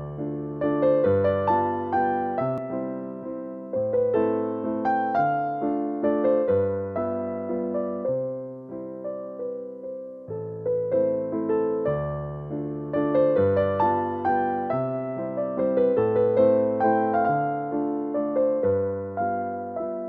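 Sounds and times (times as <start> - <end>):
gentle keyboard tune: 0.0 - 20.0.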